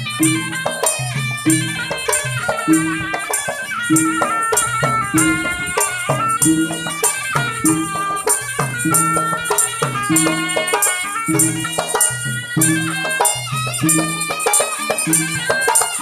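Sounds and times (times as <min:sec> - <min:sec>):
drums beating steady rhythm: 0:00.0 - 0:16.0
reedy pipe melody: 0:00.0 - 0:16.0.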